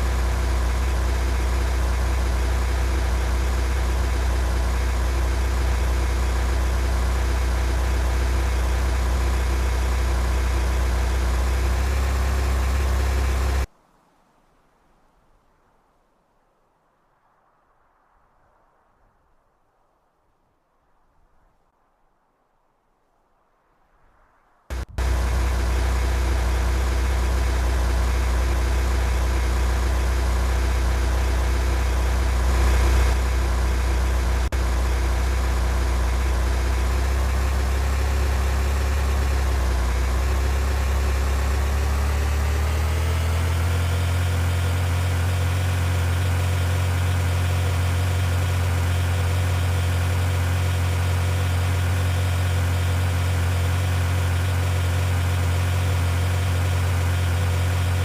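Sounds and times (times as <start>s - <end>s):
vehicle engine running: 0.0s - 13.7s, 24.7s - 58.0s.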